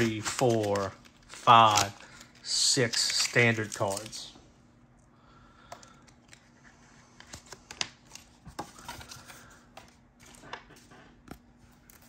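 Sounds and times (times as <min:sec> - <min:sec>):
trading cards rustling: 0:00.0 - 0:04.4, 0:05.7 - 0:12.0.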